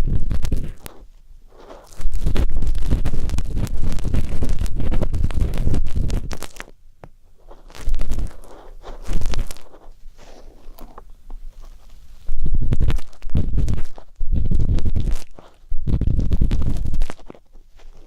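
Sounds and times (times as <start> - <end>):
ear pick scratching: 0.0 - 18.0.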